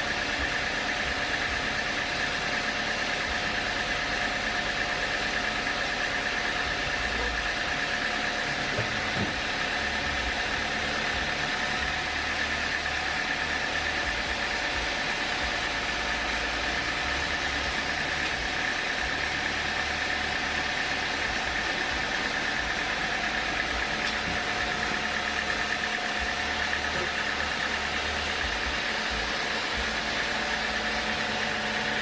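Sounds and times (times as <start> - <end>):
sawmill machinery hum: 0.0 - 32.0.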